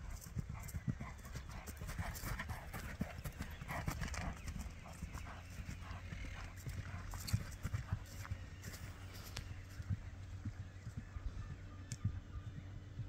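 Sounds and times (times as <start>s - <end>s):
hoofbeats cantering on grass: 0.0s - 13.0s.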